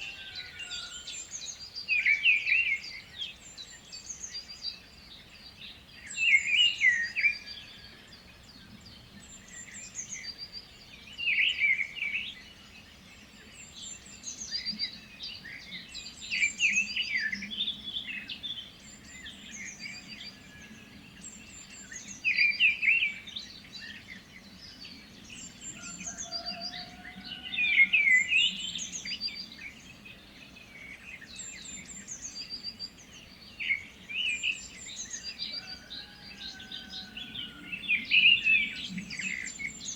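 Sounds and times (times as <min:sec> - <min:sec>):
birds warbling song: 0:00.0 - 0:39.9.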